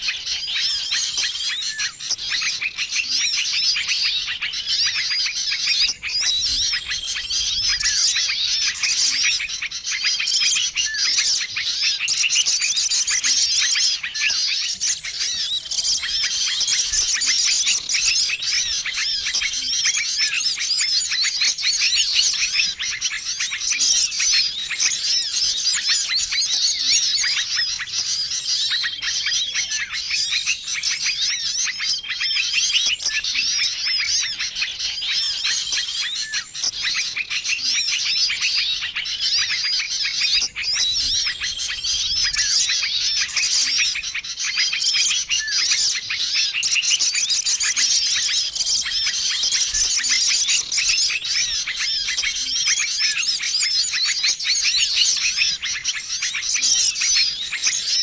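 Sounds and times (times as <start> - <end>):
chorus of songbirds chirping: 0.0 - 58.0.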